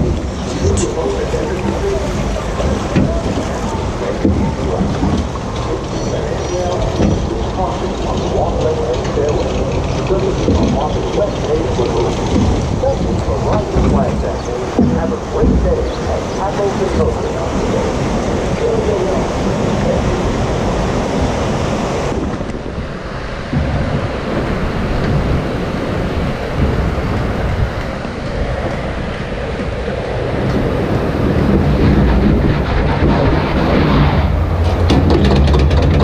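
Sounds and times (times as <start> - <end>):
low machinery hum: 0.0 - 36.0
water rushing and lapping: 0.0 - 36.0
wind buffeting microphone: 0.0 - 36.0.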